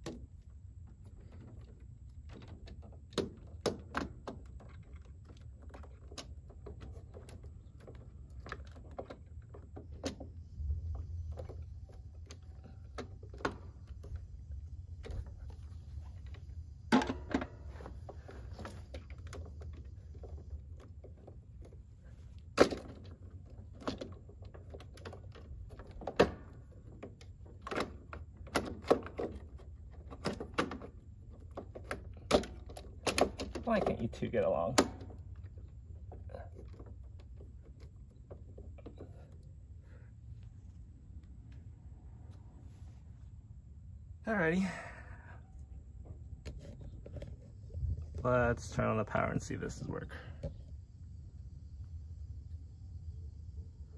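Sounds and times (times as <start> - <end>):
low steady rumble: 0.0 - 28.8, 34.0 - 53.9.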